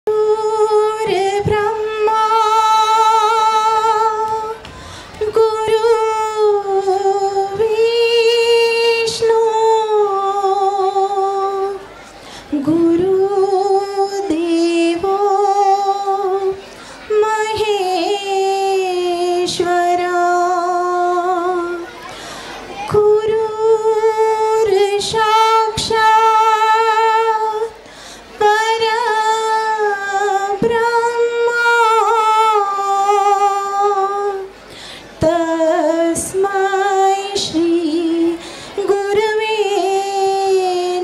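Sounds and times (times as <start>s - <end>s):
woman singing with vibrato: 0.0s - 11.8s, 12.5s - 21.9s, 22.8s - 27.8s, 28.4s - 34.6s, 35.2s - 41.0s.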